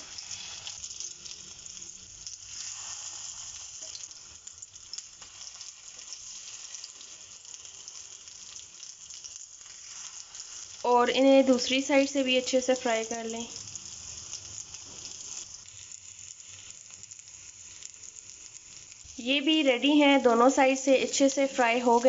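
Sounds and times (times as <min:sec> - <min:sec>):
cutlets sizzling in oil: 0:00.0 - 0:22.0.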